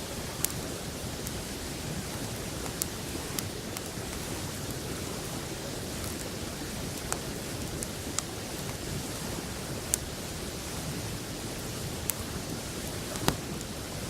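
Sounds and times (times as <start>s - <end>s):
burning wood popping: 0.0s - 14.0s
campfire crackling: 0.0s - 14.0s
river rushing: 0.0s - 14.0s.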